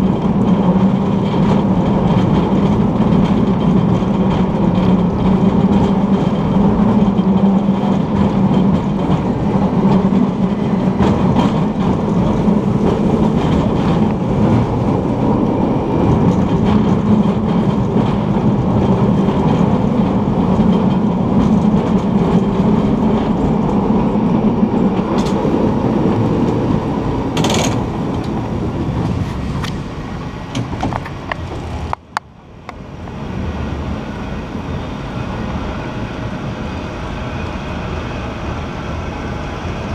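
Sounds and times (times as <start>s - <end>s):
cable car rumbling on rails: 0.0s - 39.9s.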